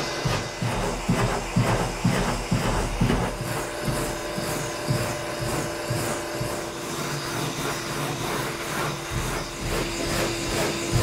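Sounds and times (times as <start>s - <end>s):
shop vacuum running: 0.0s - 11.0s
sandpaper rubbing: 0.8s - 11.0s.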